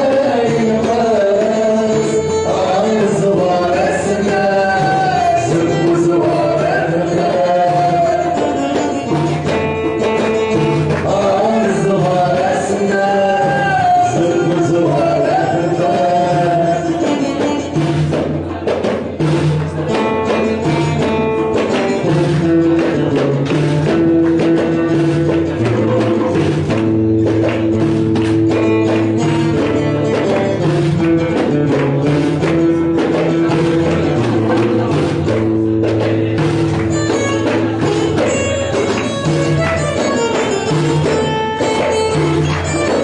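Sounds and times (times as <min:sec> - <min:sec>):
man singing: 0:00.0 - 0:27.8, 0:28.5 - 0:38.9
acoustic guitar: 0:00.0 - 0:43.0
frame drum beating: 0:00.0 - 0:43.0
hand drum beating: 0:00.0 - 0:43.0.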